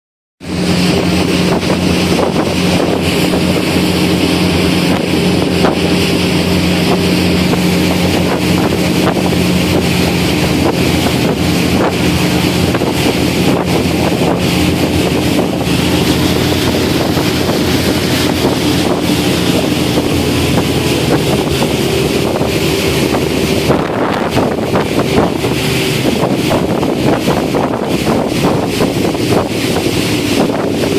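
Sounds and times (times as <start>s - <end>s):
motorboat engine humming: 0.4s - 30.9s
water rushing: 0.4s - 30.9s
wind buffeting microphone: 0.4s - 30.9s.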